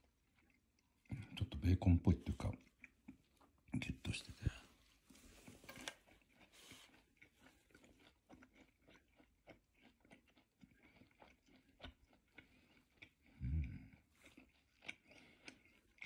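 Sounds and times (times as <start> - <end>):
chewing with mouth clicks: 0.0 - 16.0.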